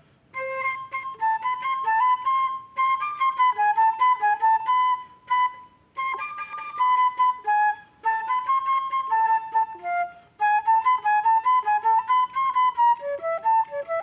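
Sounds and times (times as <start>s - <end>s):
flute melody: 0.3s - 14.0s.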